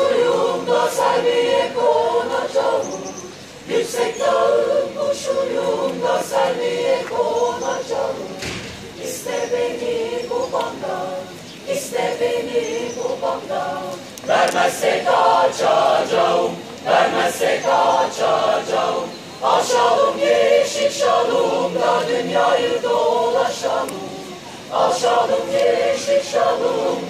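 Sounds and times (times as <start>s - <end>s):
mixed choir singing a cappella: 0.0s - 27.0s.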